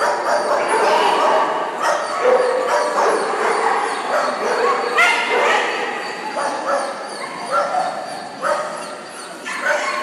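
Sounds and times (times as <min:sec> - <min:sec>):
dog barking: 0:00.0 - 0:10.0.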